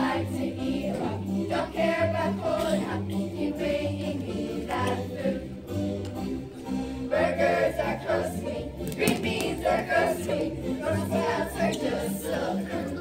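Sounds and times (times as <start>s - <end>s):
group of voices singing: 0.0s - 5.9s, 7.0s - 13.0s.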